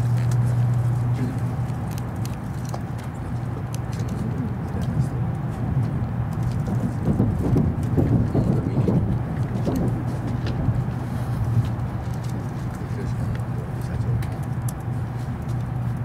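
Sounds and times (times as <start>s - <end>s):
train running low rumble: 0.0s - 16.0s.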